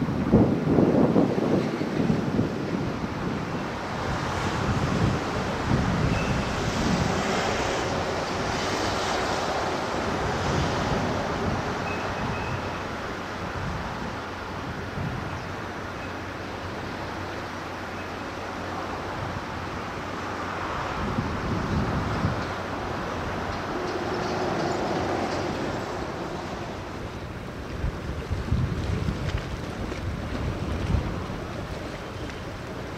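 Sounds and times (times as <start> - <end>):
open water: 0.0 - 32.9
wind buffeting microphone: 0.0 - 32.9.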